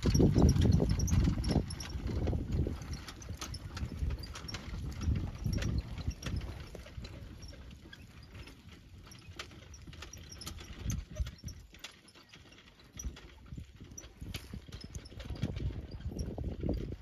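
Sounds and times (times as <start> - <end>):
hoofbeats on dirt: 0.0 - 17.0.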